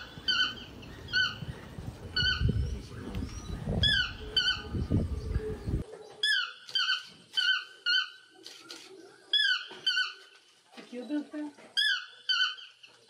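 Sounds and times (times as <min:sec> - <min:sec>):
bird yelping calls: 0:00.0 - 0:10.4, 0:11.7 - 0:13.0.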